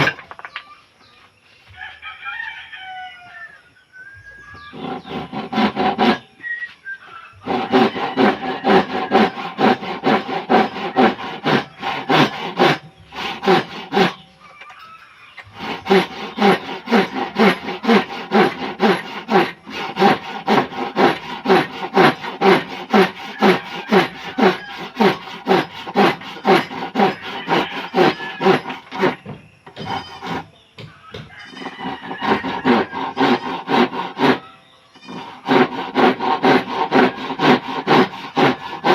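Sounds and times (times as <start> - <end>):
hand saw cutting wood: 0.0 - 0.3, 4.6 - 6.3, 7.4 - 14.2, 15.4 - 30.6, 31.2 - 38.9.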